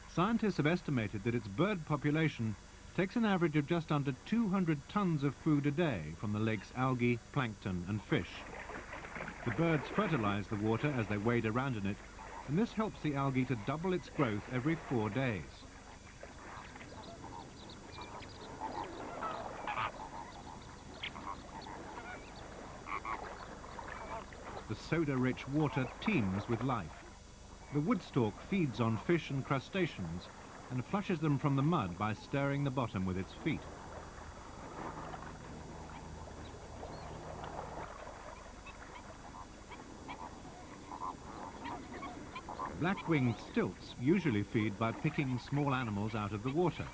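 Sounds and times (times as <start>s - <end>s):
flamingos honking: 3.0s - 46.9s.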